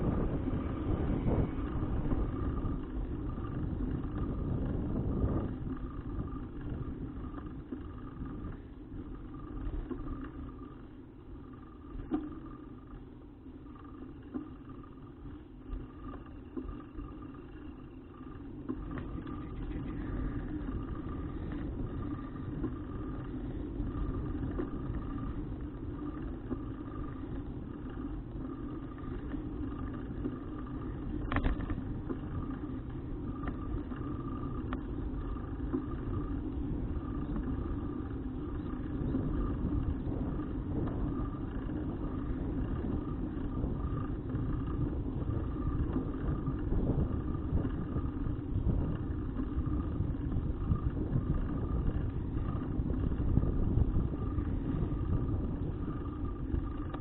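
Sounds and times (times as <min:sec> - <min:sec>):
bicycle road rumble: 0:00.0 - 0:57.0
wind: 0:00.0 - 0:57.0.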